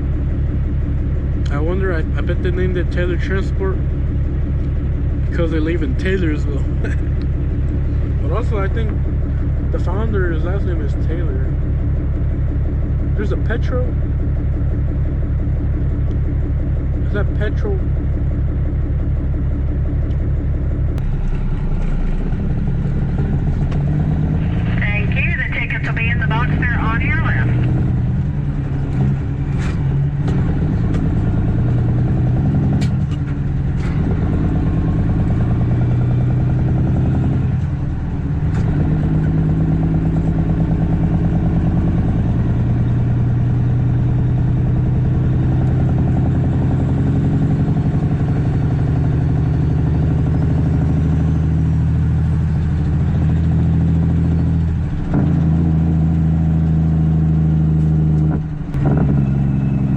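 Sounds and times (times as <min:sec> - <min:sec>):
diesel truck engine pulling: 0:00.0 - 0:59.9.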